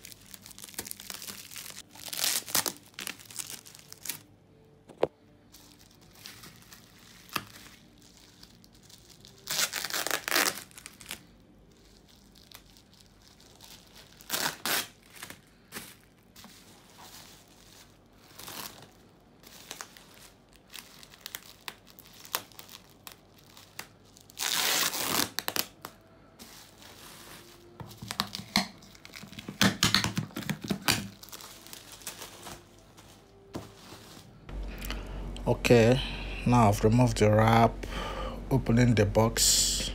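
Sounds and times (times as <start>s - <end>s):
bubble wrap crinkling and ripping: 0.0s - 4.7s, 5.3s - 34.8s.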